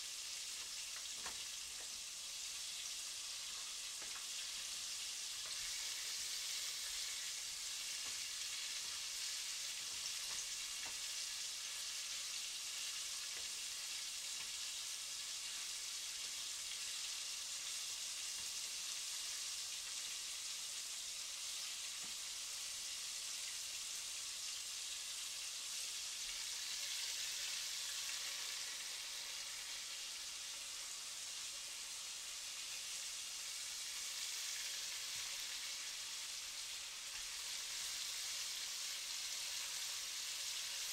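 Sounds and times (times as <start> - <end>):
food deep-frying in oil: 0.0 - 40.9.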